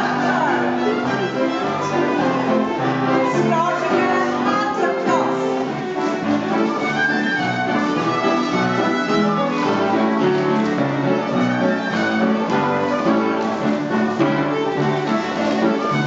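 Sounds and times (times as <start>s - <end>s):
fiddle playing dance tune: 0.0s - 16.0s
piano accompaniment: 0.0s - 16.0s.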